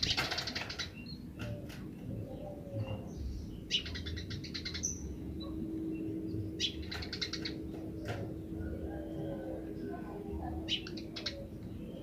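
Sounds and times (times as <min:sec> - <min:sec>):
sparrows chattering: 0:00.0 - 0:12.0.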